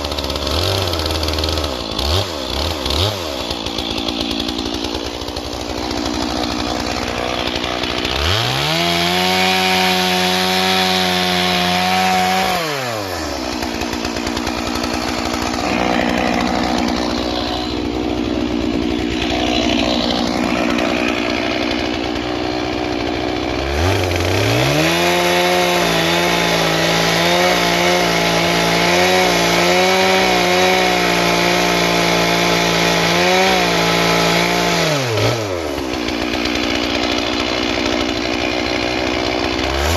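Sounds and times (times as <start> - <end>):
chainsaw cutting through log: 0.0 - 39.9
chainsaw revving: 0.0 - 39.9.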